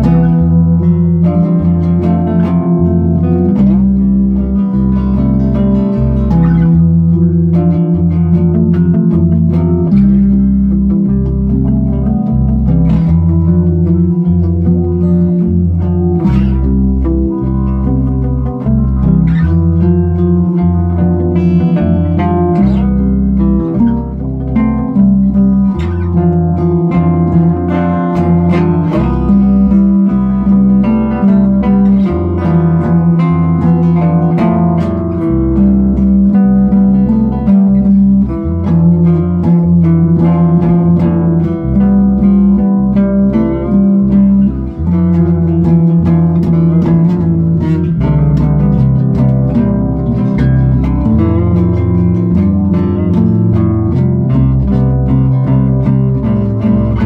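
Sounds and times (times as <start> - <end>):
guitars playing: 0.0 - 57.0
rhythmic bass line: 0.0 - 57.0.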